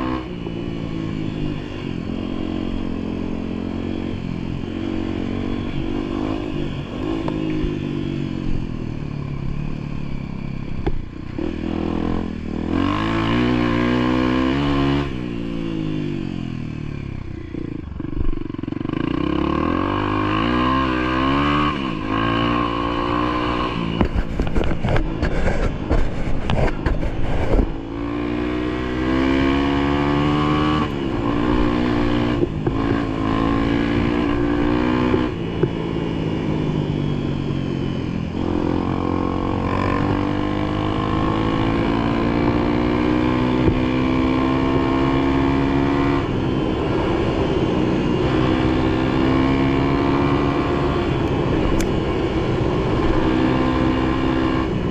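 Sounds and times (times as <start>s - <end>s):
vehicle engine revving: 10.7s - 54.9s.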